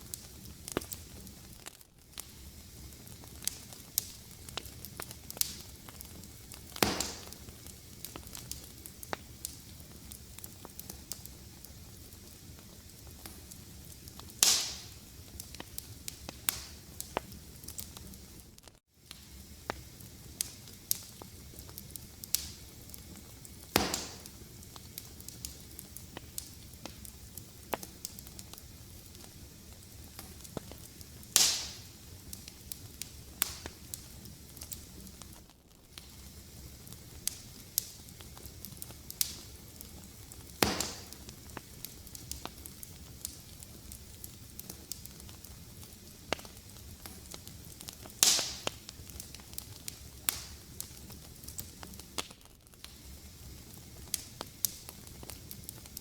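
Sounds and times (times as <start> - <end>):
low hiss: 0.0 - 52.2
loud fire pops: 0.0 - 56.0
wood fire crackling: 0.0 - 56.0.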